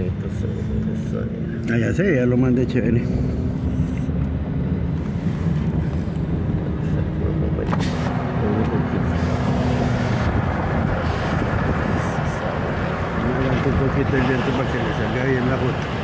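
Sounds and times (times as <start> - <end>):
road and tyre rumble in car: 0.0 - 16.0.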